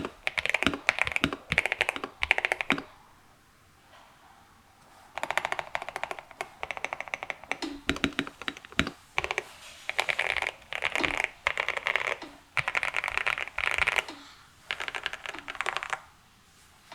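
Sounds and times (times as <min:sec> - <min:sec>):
mechanical keyboard typing: 0:00.0 - 0:02.9, 0:05.1 - 0:16.1.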